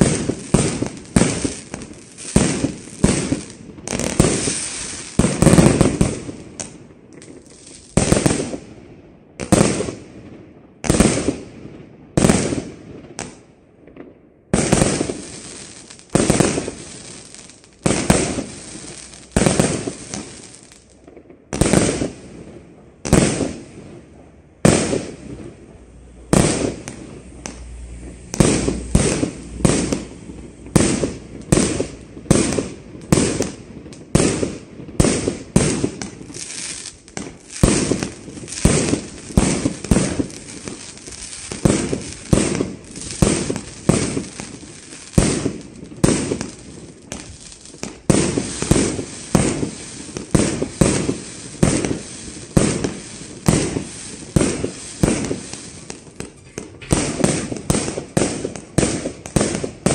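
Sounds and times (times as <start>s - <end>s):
firework shots banging: 0.0s - 8.6s, 12.2s - 22.3s, 24.6s - 59.9s.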